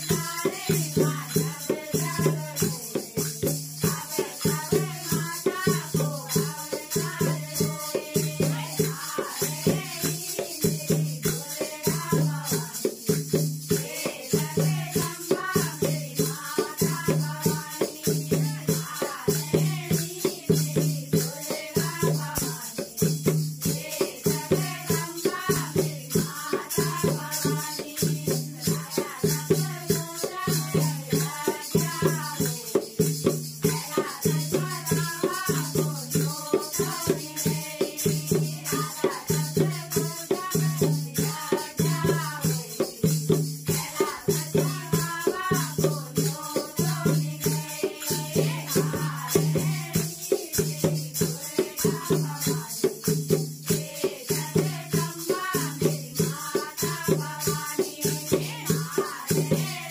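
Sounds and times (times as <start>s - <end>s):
dholak drum: 0.0s - 59.9s
small hand cymbals: 0.0s - 59.9s
women singing together: 0.0s - 59.9s.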